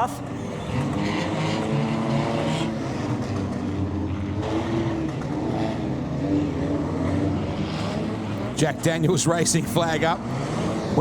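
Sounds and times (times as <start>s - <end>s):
many car engines revving: 0.0s - 11.0s.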